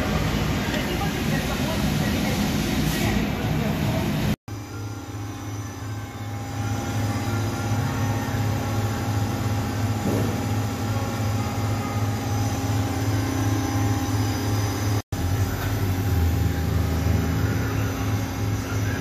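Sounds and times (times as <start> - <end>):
workshop machinery humming: 0.0 - 19.0.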